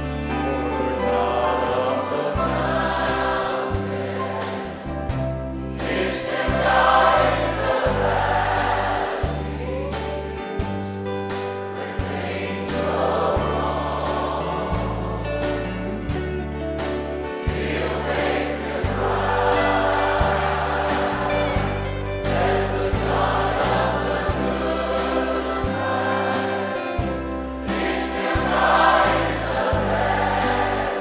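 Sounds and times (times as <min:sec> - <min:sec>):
bass line: 0:00.0 - 0:31.0
choir singing gospel: 0:00.0 - 0:31.0
instrumental accompaniment: 0:00.0 - 0:31.0.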